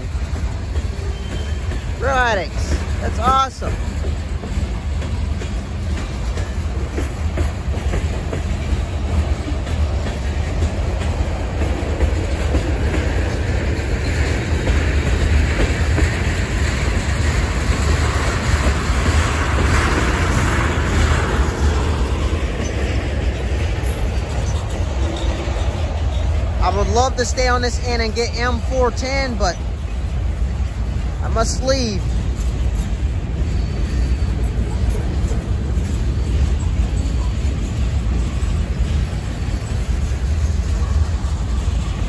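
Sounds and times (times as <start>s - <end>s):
freight cars rolling past: 0.0s - 42.0s
steel wheels clattering on rails: 0.0s - 42.0s.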